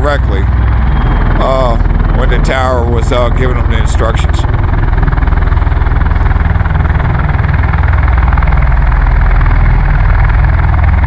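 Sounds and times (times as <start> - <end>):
tiltrotor aircraft pulsing drone: 0.0 - 11.0.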